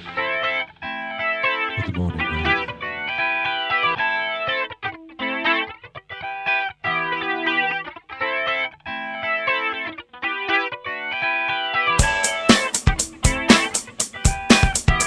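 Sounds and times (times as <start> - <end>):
guitar with effects playing chords: 0.0 - 15.0.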